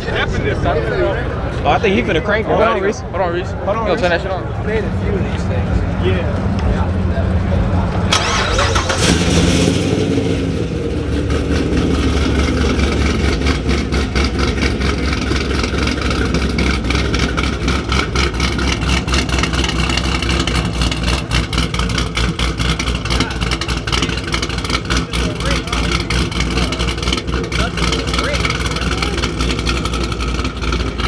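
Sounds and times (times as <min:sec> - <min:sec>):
car engine idling: 0:03.1 - 0:31.0.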